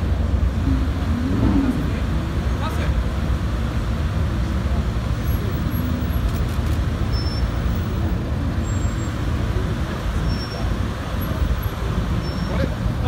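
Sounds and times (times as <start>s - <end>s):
slow street traffic rumble: 0.0s - 13.0s.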